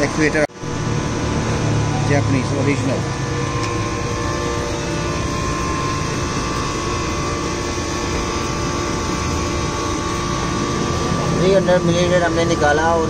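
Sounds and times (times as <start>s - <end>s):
high whine: 0.0s - 13.0s
mechanical drone: 0.0s - 13.0s.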